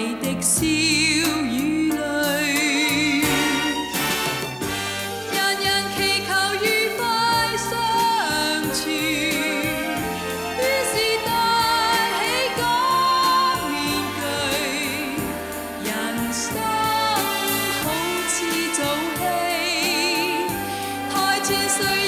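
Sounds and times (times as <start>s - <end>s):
instrumental pop ballad: 0.0s - 22.0s.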